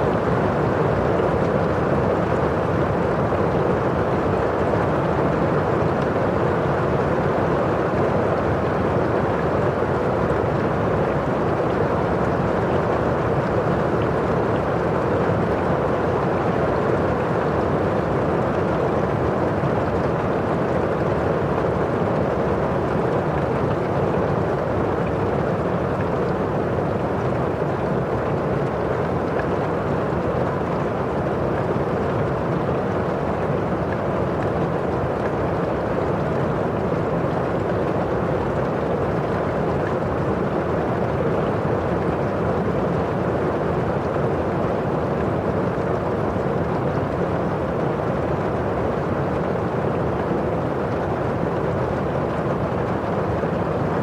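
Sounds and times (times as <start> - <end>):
rain on a windowpane: 0.0 - 54.0.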